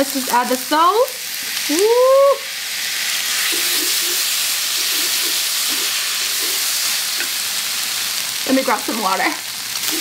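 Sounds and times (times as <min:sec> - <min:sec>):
noodles sizzling in frying pan: 0:00.0 - 0:10.0.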